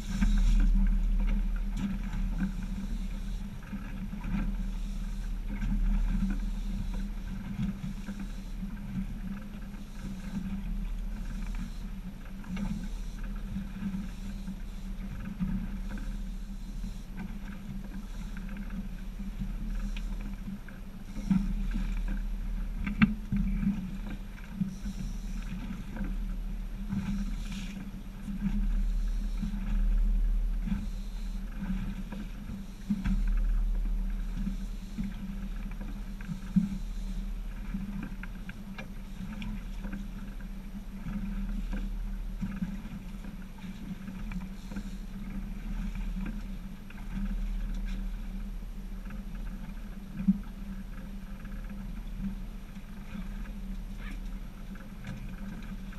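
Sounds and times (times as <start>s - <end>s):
low engine drone: 0.0s - 55.9s
water slapping against hull: 0.0s - 55.9s.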